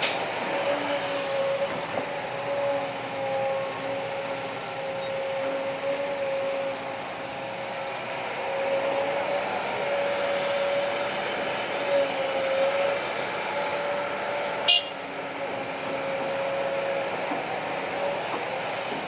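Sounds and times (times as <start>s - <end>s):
diesel machinery engine: 0.0s - 19.0s.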